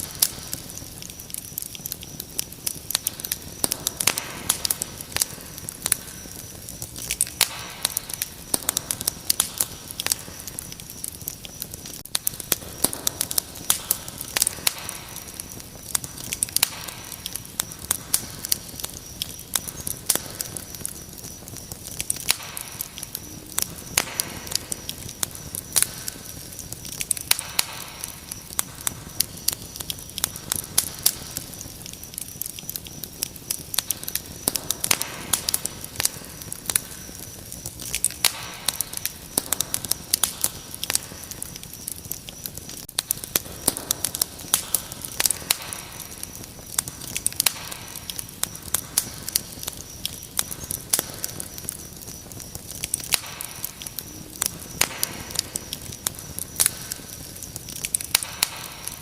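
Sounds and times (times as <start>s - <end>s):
crickets chirring: 0.0s - 59.0s
wood fire crackling: 0.0s - 59.0s.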